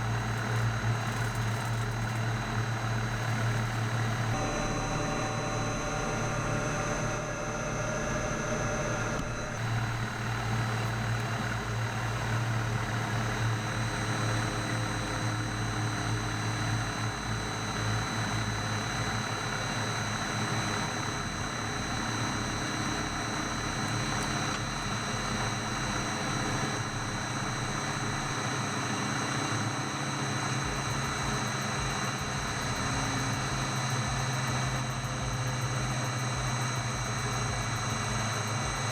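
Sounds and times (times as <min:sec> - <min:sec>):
centrifuge motor hum: 0:00.0 - 0:38.9
high whine: 0:00.0 - 0:38.9.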